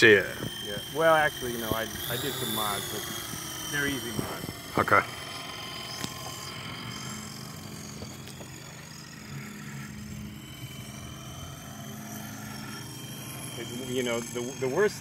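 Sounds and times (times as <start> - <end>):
rc helicopter motor and rotor hum: 0.0 - 15.0
thin high whine: 0.0 - 15.0.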